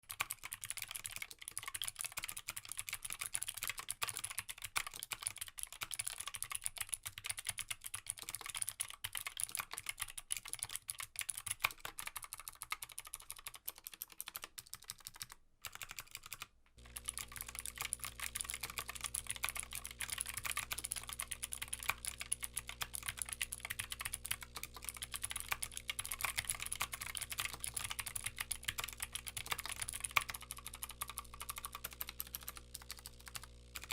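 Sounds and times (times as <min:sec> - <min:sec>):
fast mechanical keyboard typing: 0:00.0 - 0:33.9.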